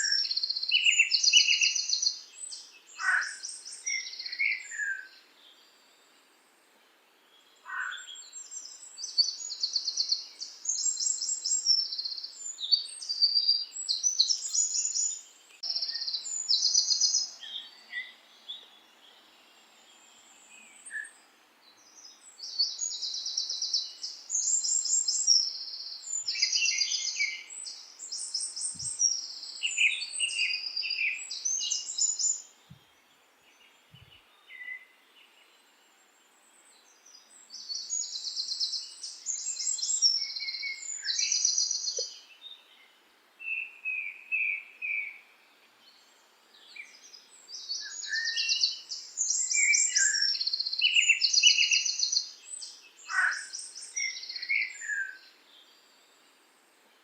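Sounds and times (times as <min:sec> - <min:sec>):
faint hiss: 0:00.0 - 0:57.0
songbirds trilling and chirping: 0:00.0 - 0:57.0.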